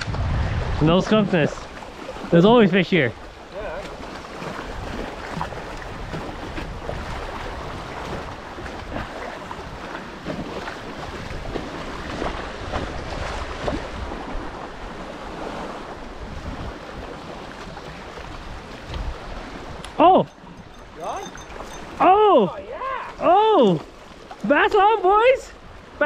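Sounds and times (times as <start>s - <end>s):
wind buffeting microphone: 0.0s - 2.3s, 3.1s - 22.1s
lake water lapping and splashing: 0.0s - 26.0s.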